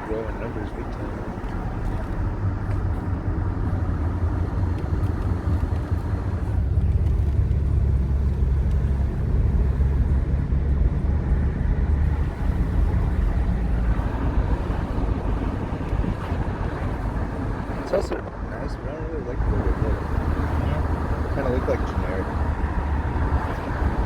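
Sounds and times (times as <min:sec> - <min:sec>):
car engine hum inside cabin: 0:00.0 - 0:24.0.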